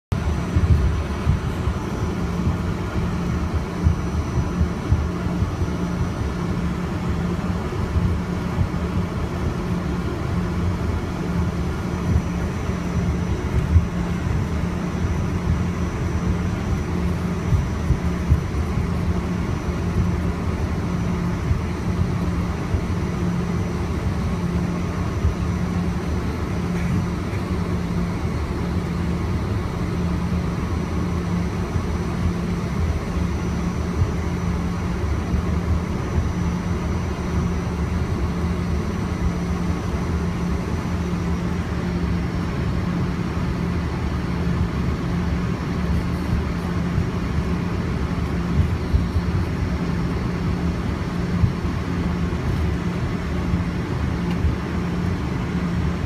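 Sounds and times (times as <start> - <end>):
aircraft engines rumbling: 0.0 - 56.0
faint high whine: 0.1 - 56.0.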